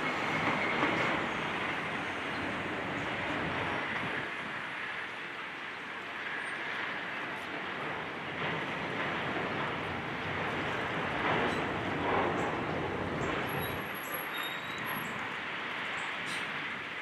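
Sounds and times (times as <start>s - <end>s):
heavy equipment engine noise: 0.0s - 17.0s
street traffic: 0.0s - 17.0s.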